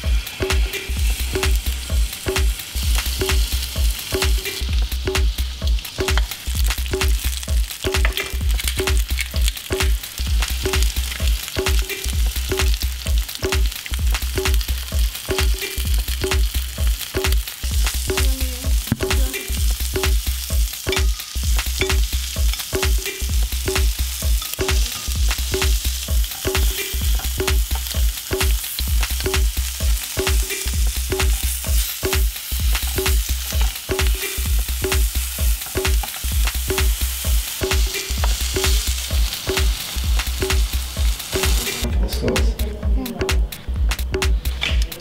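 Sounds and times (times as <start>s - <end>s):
fish sizzling in a grill pan: 0.0s - 41.9s
background music with bass: 0.0s - 45.0s.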